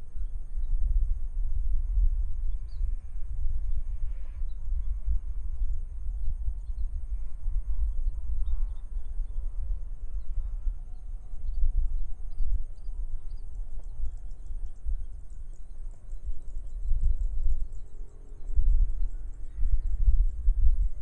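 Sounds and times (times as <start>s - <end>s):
faint bird chirps: 0.0s - 21.0s
faint high-pitched whine: 0.0s - 21.0s
wind buffeting microphone: 0.0s - 21.0s.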